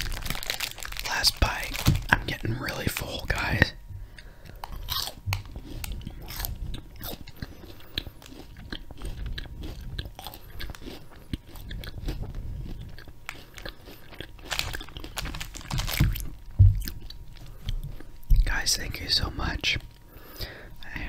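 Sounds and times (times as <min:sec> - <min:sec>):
crunchy treat chewed close up: 0:00.0 - 0:18.6.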